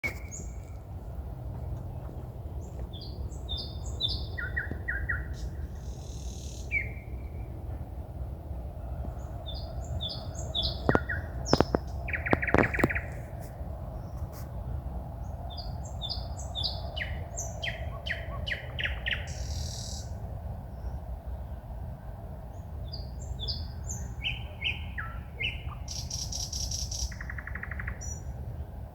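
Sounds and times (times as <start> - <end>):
songbird singing: 0.0 - 7.9, 8.7 - 28.9
low background rumble: 0.0 - 28.9.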